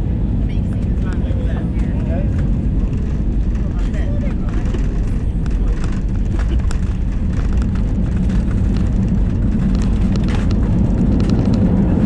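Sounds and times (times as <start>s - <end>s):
aircraft engine and airflow rumble: 0.0s - 12.0s.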